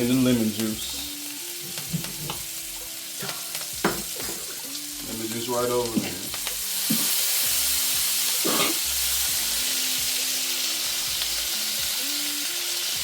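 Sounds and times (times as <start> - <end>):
sizzling in a frying pan: 0.0 - 13.0.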